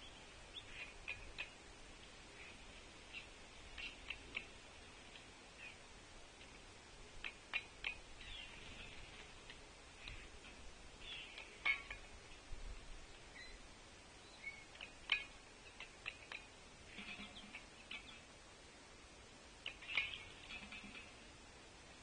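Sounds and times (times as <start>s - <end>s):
birds pecking at feeder: 0.0s - 13.2s, 14.4s - 18.5s, 19.5s - 21.4s
birds chirping: 0.0s - 18.4s, 19.6s - 21.3s.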